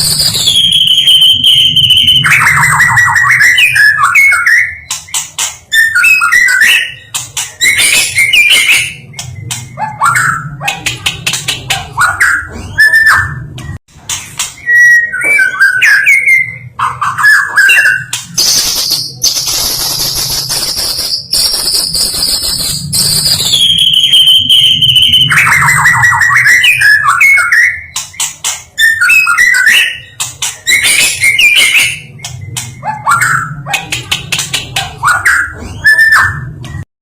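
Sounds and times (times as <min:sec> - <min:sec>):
bird singing whistles and trills: 0:00.0 - 0:10.7, 0:12.0 - 0:13.5, 0:14.5 - 0:33.8, 0:35.0 - 0:36.8.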